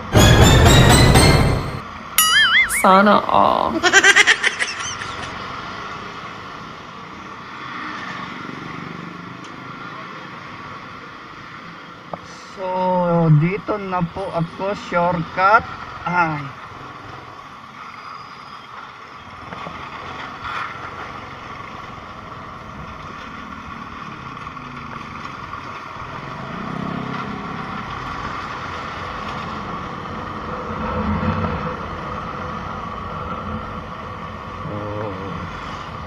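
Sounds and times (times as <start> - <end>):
road noise: 0.0 - 2.2, 2.8 - 36.0.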